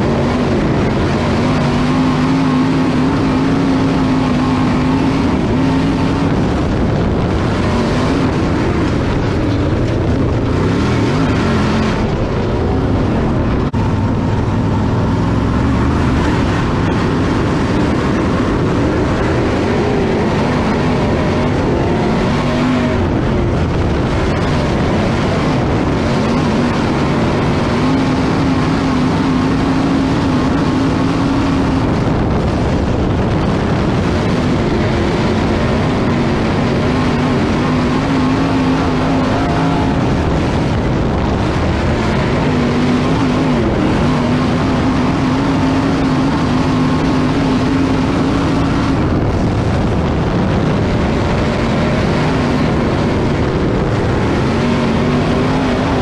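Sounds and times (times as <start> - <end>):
race car engine: 0.0 - 56.0
rushing noise: 0.0 - 56.0.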